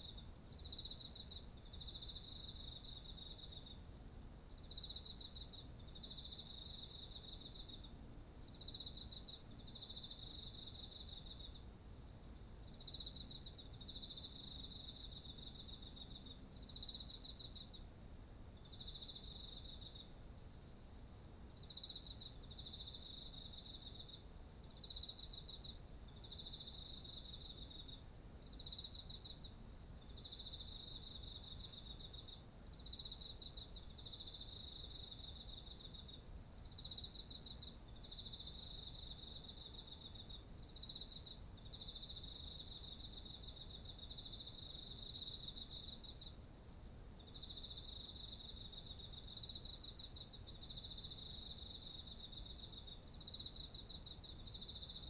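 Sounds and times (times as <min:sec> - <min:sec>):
insect high steady trill: 0:04.6 - 0:55.0.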